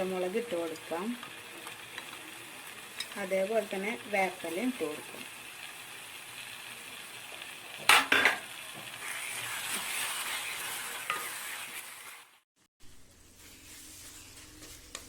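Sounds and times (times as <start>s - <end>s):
masala sizzling in oil: 0.0s - 15.0s.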